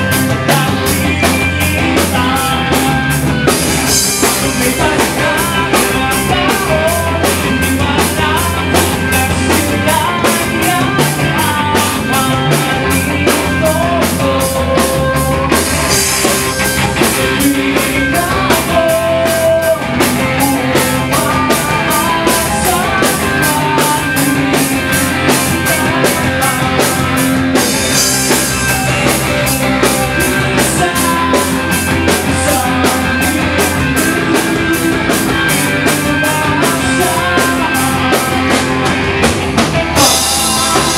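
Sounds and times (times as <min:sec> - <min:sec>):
drum kit beat: 0:00.0 - 0:40.9
electric guitars: 0:00.0 - 0:40.9.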